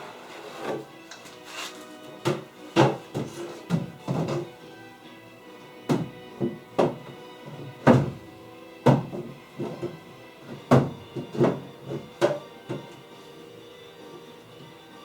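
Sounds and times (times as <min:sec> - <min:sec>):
background music sustained notes: 0:00.0 - 0:15.0.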